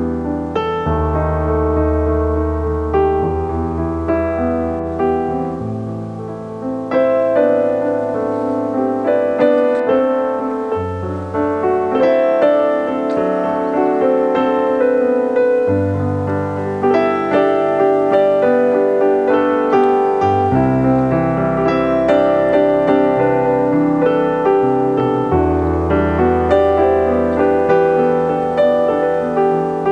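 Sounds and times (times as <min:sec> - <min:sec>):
piano music: 0:00.0 - 0:29.9.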